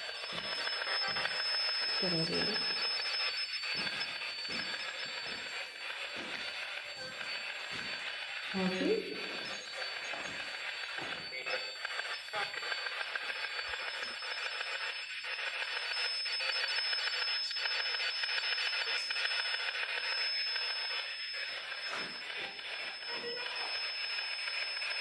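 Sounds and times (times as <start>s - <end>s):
radio static hiss with flutter: 0.0s - 25.0s
thin high whine: 0.0s - 25.0s.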